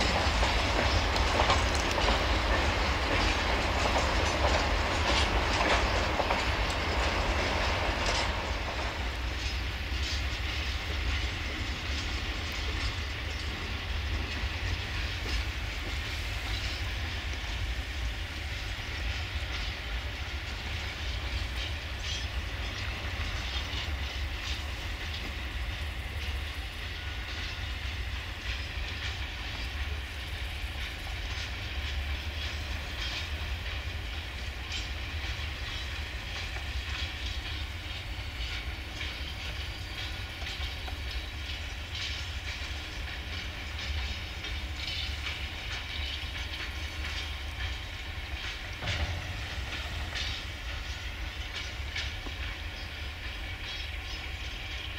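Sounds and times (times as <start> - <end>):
train wheels clattering over rails: 0.0 - 54.9.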